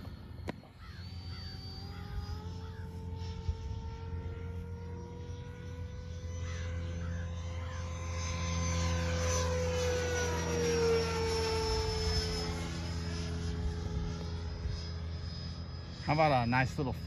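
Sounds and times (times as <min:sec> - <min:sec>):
jet model whining past: 0:00.0 - 0:17.0.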